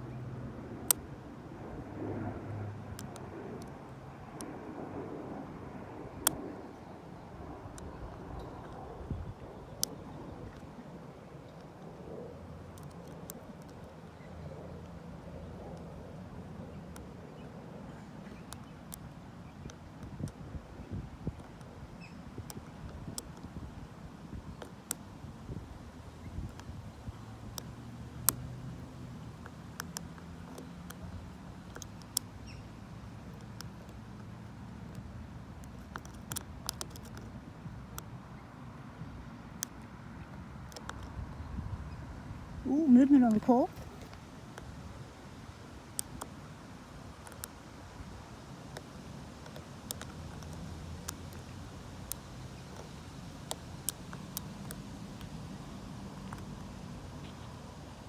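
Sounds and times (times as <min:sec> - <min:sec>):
low muffled wind rumble: 0:00.0 - 0:58.0.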